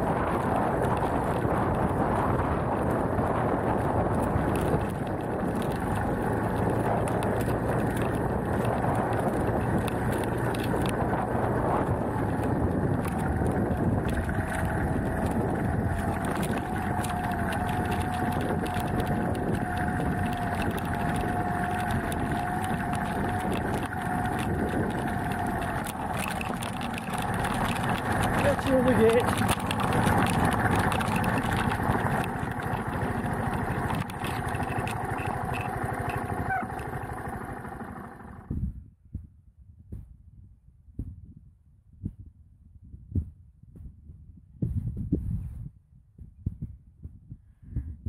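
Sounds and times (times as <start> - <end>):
tyres on loose gravel: 0.0 - 38.5
motorcycle engine running: 0.0 - 38.9
wind on microphone: 0.0 - 48.0.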